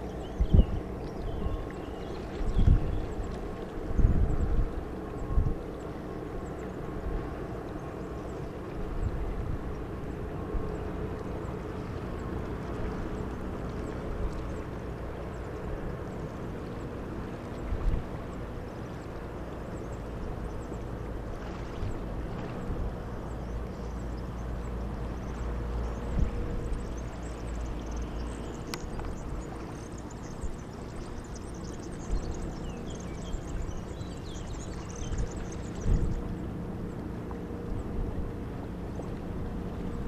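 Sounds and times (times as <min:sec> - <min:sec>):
distant jet engine rumble: 0:00.0 - 0:40.0.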